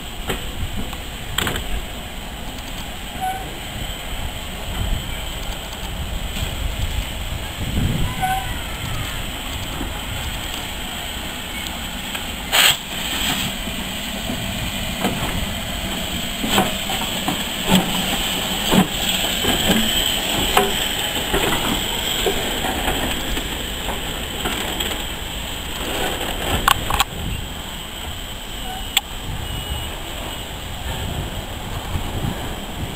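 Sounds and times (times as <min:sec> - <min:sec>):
steam hiss: 0:00.0 - 0:32.9
train wheels clanking: 0:00.0 - 0:32.9.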